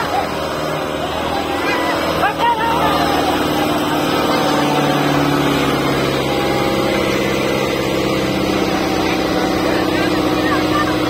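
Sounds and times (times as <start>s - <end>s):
diesel tractor engine under load: 0.0s - 11.0s.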